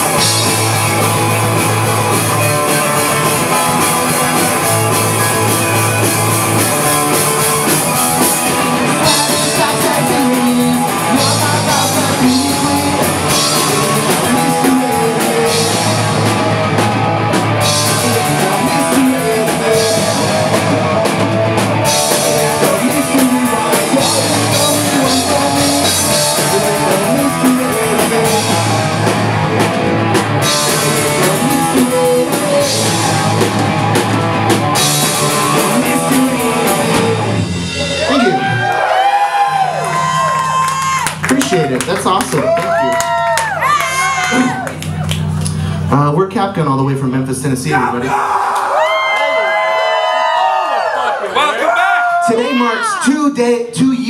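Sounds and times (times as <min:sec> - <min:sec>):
electric guitar: 0:00.0 - 0:46.0
drum kit: 0:00.0 - 0:46.8
bass guitar: 0:00.0 - 0:54.0.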